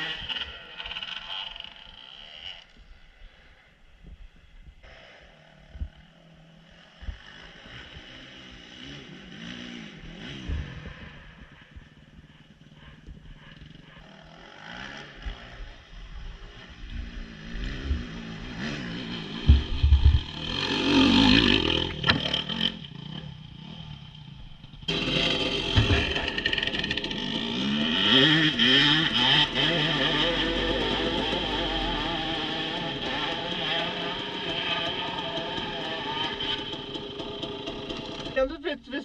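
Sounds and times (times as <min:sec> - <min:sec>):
dirt bike engine revving: 0:00.0 - 0:03.4, 0:04.8 - 0:39.0.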